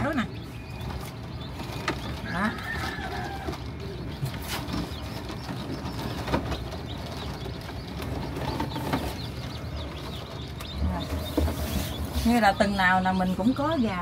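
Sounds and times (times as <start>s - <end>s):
birds calling faintly: 0.0s - 14.0s.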